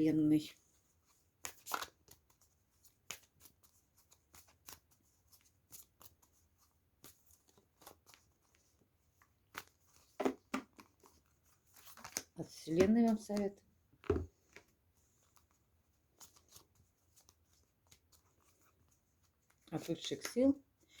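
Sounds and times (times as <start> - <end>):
cards being shuffled: 1.4 - 20.4.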